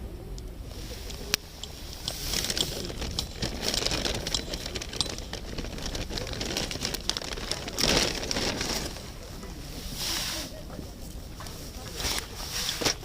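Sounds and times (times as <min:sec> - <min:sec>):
campfire crackling: 0:00.2 - 0:13.0.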